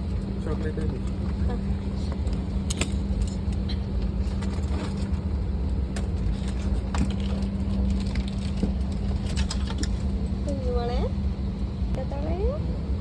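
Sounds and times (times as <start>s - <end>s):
airliner cabin rumble: 0.0s - 13.0s
constant hum: 0.0s - 13.0s.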